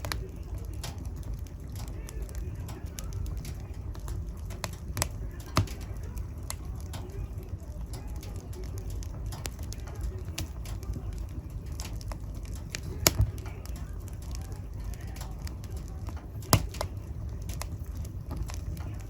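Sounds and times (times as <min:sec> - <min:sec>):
low rumble of flame: 0:00.0 - 0:19.0
wood fire crackling and popping: 0:00.0 - 0:19.0.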